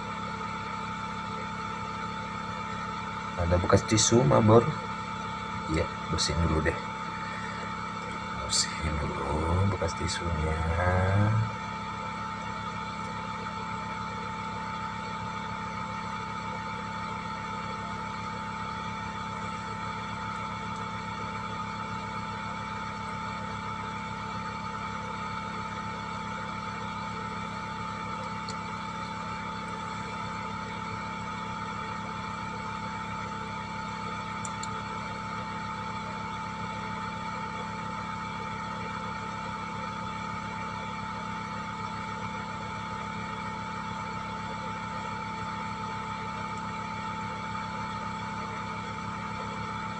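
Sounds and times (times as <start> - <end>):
small electric motor humming: 0.0 - 49.9.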